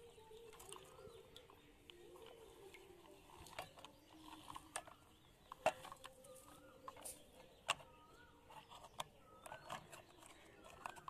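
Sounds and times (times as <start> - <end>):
plastic toy parts clicking: 0.0 - 11.0.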